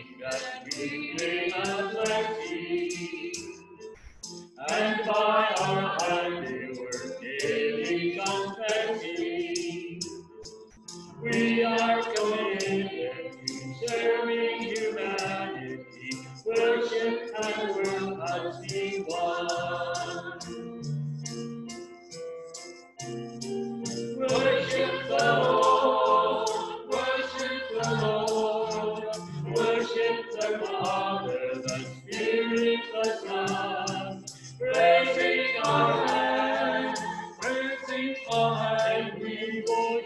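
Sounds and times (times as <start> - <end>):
group singing a hymn: 0.0 - 3.7, 4.6 - 10.2, 11.1 - 20.6, 24.2 - 40.0
accompanying music: 0.0 - 40.0
light ticking beat: 0.3 - 40.0.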